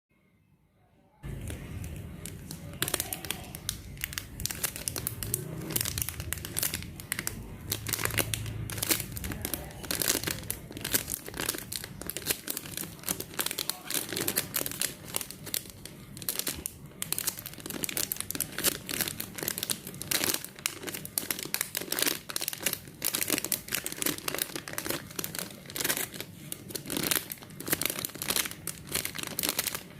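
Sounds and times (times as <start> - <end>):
squishy toy crinkling: 1.2 - 29.9.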